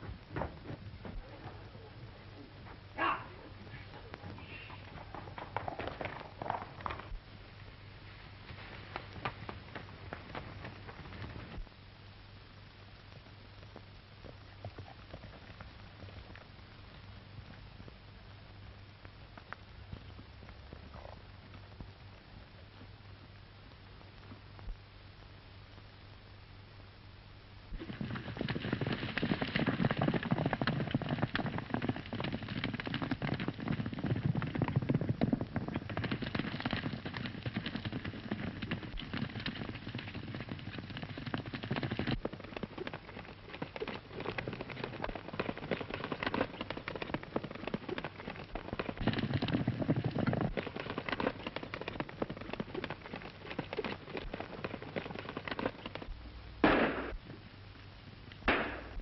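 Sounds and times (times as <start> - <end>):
horses galloping on dirt: 0.0 - 12.1, 12.7 - 24.9, 27.7 - 56.3.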